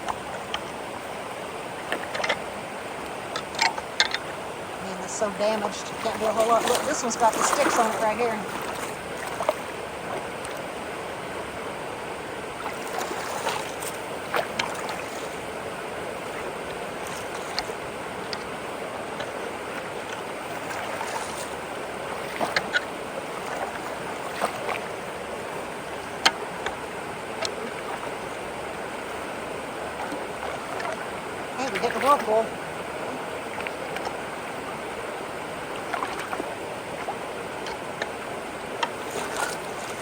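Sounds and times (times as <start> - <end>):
creek water rushing through culvert: 0.0 - 40.0.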